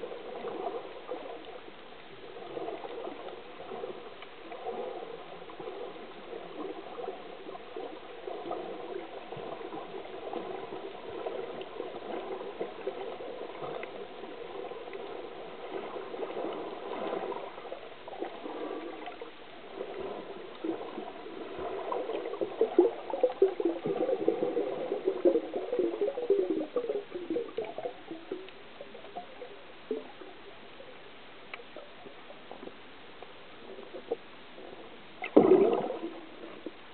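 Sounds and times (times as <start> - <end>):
underwater gurgling and swishing: 0.0 - 36.9.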